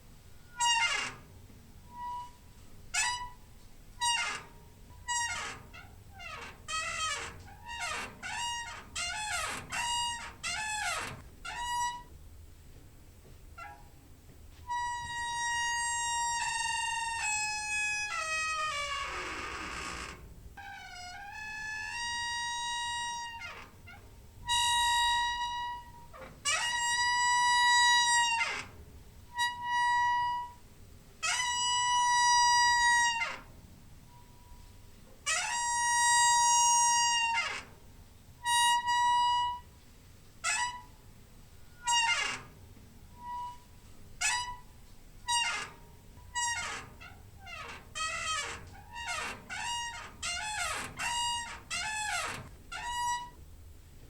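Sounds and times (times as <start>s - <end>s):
door hinge squeaking: 0.4s - 12.2s, 13.6s - 14.0s, 14.6s - 30.6s, 31.2s - 33.5s, 35.3s - 37.8s, 38.4s - 39.7s, 40.4s - 41.0s, 41.6s - 53.5s.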